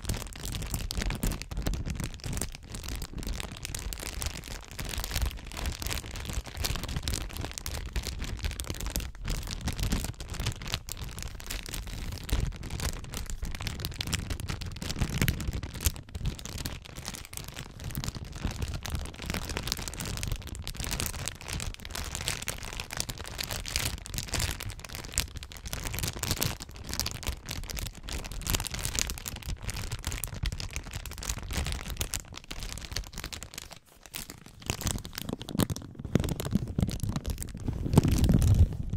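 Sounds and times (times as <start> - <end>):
plastic bags crinkling: 0.0 - 38.9.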